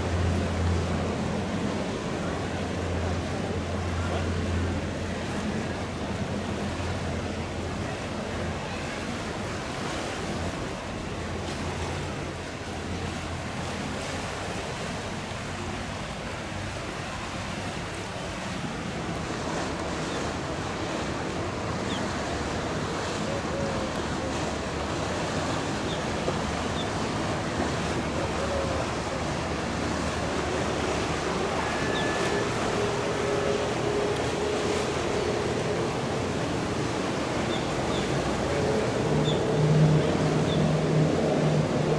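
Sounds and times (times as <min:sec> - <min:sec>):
powerboat engines running: 0:00.0 - 0:41.9
waves washing: 0:00.0 - 0:41.9.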